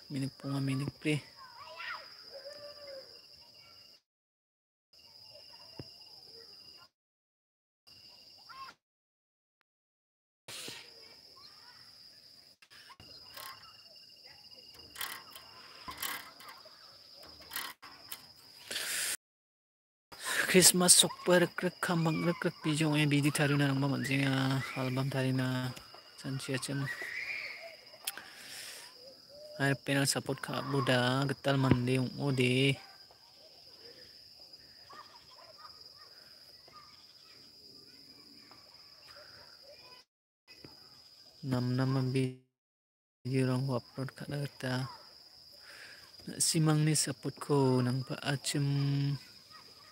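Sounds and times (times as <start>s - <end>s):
insects trilling: 0.0s - 4.0s, 10.5s - 19.2s, 20.1s - 42.4s, 43.3s - 49.9s.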